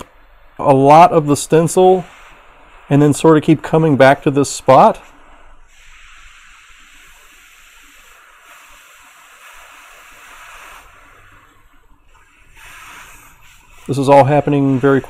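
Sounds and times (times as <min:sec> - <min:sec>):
hot air nozzle hissing: 0:00.0 - 0:15.0.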